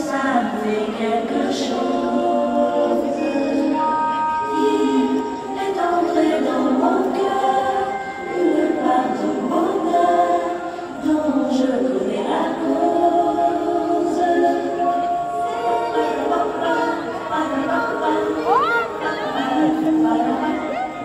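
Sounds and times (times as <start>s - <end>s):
choral singing over sound system: 0.0s - 21.0s.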